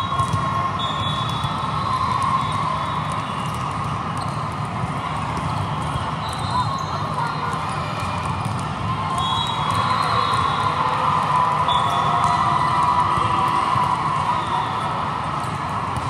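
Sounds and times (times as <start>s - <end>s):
crowd cheering: 0.0s - 16.0s
crowd noise: 0.0s - 16.0s.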